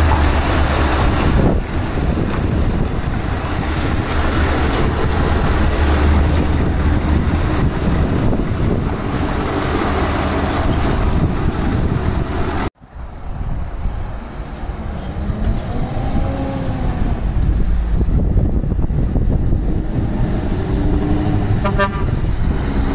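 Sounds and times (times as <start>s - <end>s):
truck engine droning: 0.0s - 12.7s, 13.4s - 22.9s
wind and road noise: 0.0s - 22.9s.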